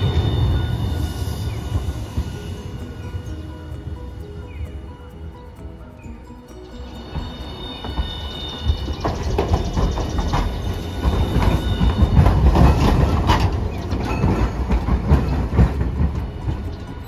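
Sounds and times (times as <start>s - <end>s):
tram low rumble: 0.0s - 17.0s
tram wheels clacking over rails: 0.0s - 17.0s.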